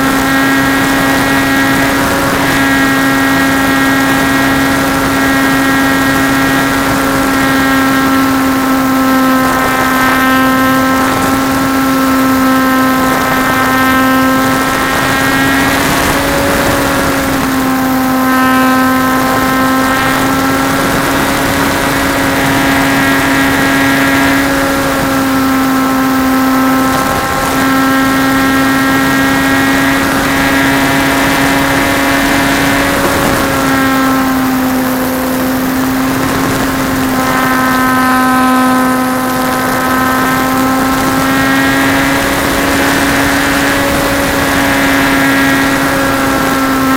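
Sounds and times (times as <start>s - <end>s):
air rushing over microphone: 0.0s - 46.9s
model plane motor droning: 0.0s - 46.9s.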